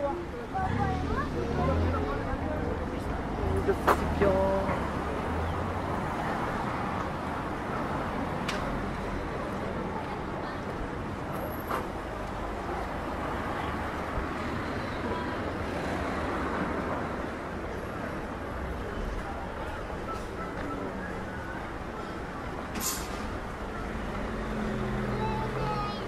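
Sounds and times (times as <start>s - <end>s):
cars driving slowly: 0.0s - 26.0s.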